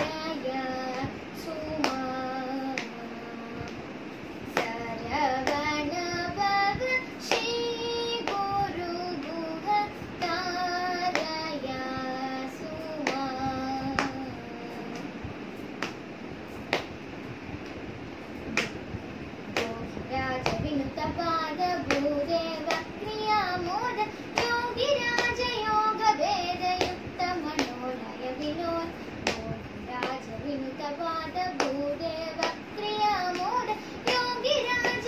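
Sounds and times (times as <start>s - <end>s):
girl singing: 0.0s - 15.3s, 19.4s - 35.0s.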